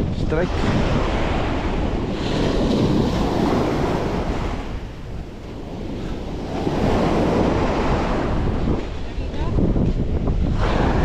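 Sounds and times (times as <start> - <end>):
sea waves washing: 0.0 - 11.0
wind buffeting microphone: 0.0 - 11.0.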